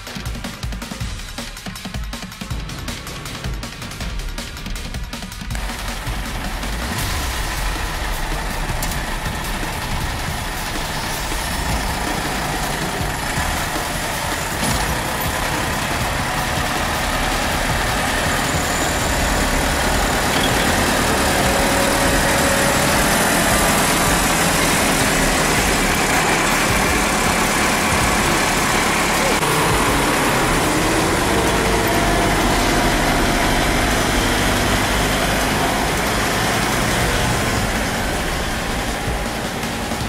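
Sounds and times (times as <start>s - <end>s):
tractor diesel engine under load: 2.5s - 40.0s.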